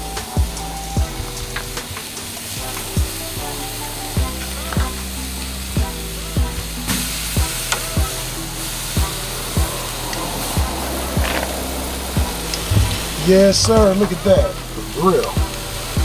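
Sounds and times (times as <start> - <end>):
background music with drums and bass: 0.0 - 16.0
steaks sizzling on a grill: 0.0 - 16.0.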